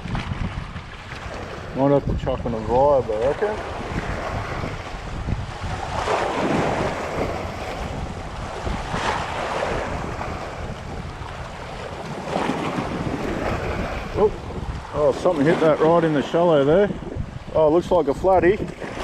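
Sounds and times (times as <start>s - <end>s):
moving water: 0.0s - 19.0s
wind buffeting microphone: 0.0s - 19.0s.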